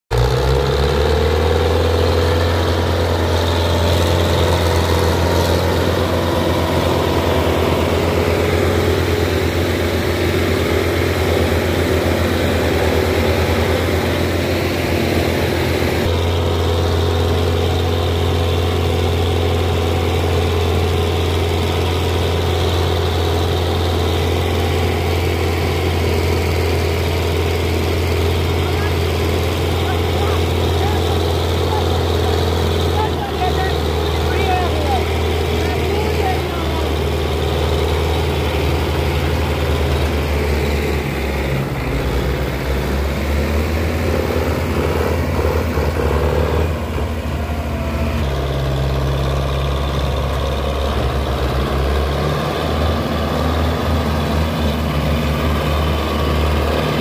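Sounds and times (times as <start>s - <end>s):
tractor diesel engines under load: 0.0s - 57.0s.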